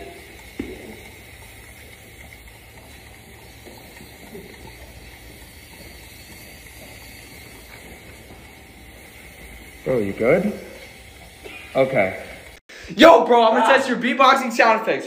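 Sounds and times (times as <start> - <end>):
spray bottle spritzes: 0.0 - 12.6.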